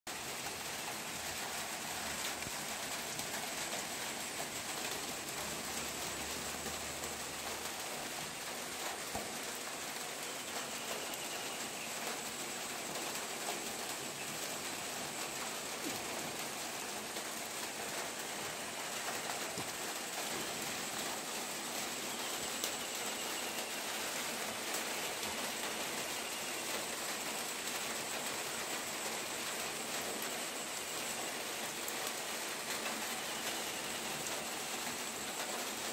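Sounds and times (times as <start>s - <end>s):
steady rain falling: 0.1s - 35.9s.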